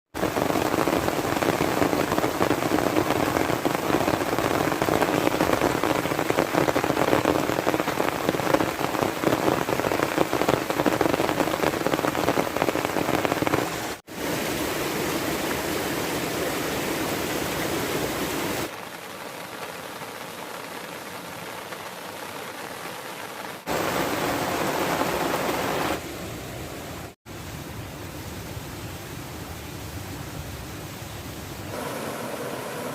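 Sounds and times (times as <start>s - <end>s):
heavy rain falling: 0.2s - 32.9s.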